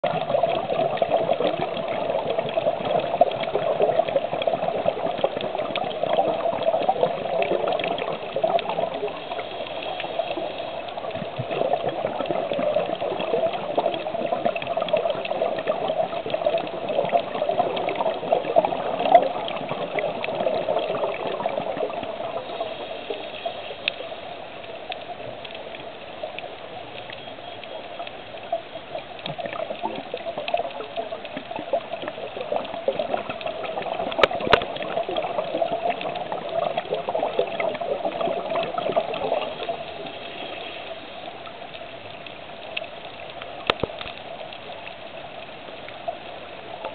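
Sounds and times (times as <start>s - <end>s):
muffled underwater rush: 0.0s - 46.9s
reef crackles and clicks: 0.0s - 46.9s.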